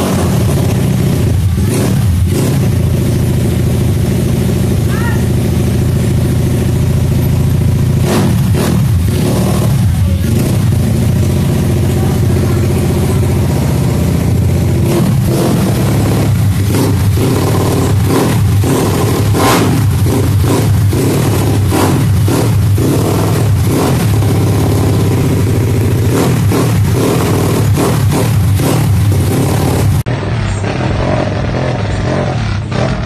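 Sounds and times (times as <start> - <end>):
scooter engine running: 0.0 - 33.0.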